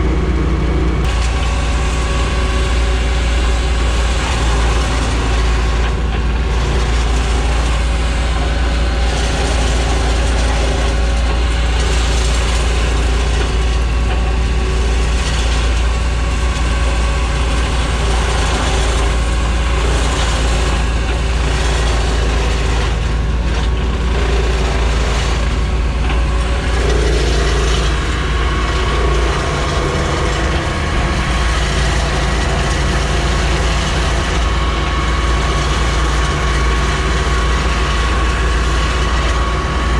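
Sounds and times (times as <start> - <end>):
heavy engine droning: 0.0 - 39.9.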